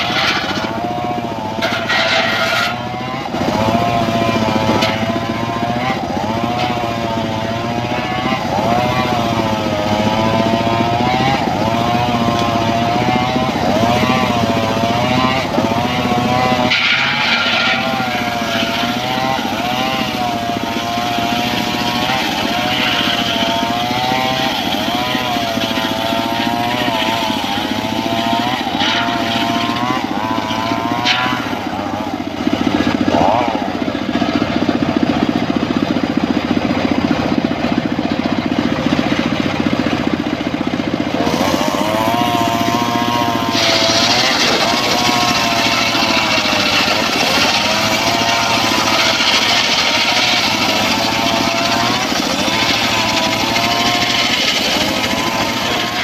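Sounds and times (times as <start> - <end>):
circular saw blade whining: 0.0 - 35.0, 41.1 - 56.0
sawmill engine running: 0.0 - 56.0.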